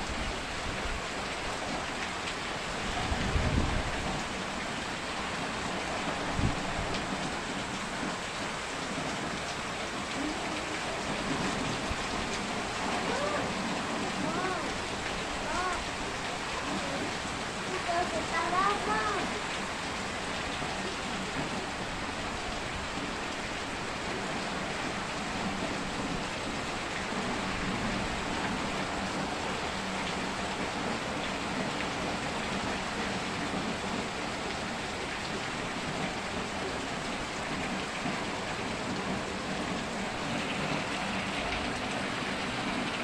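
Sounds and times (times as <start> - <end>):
rain splashing into water: 0.0 - 43.0.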